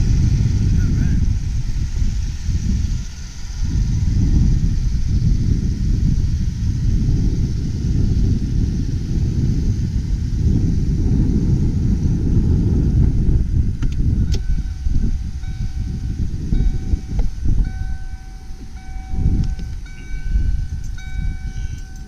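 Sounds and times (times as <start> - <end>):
heavy low rumbling: 0.0 - 22.0.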